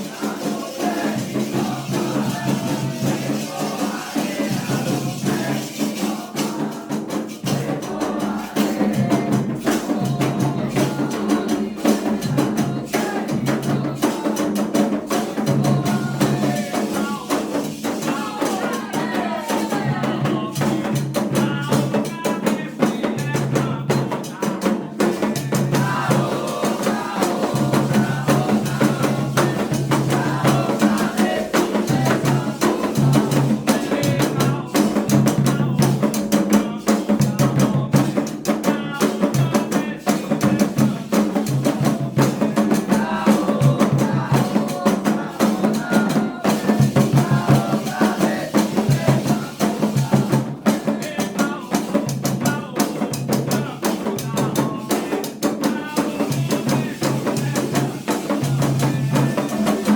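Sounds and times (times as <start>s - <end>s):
hand drums beating: 0.0s - 59.9s
voices singing: 0.0s - 59.9s.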